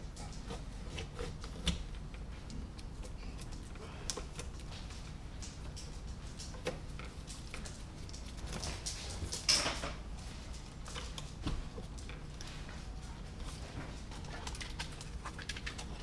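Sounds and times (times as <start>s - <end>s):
hands clicking and rustling wiring: 0.0s - 16.0s
low steady hum: 0.0s - 16.0s.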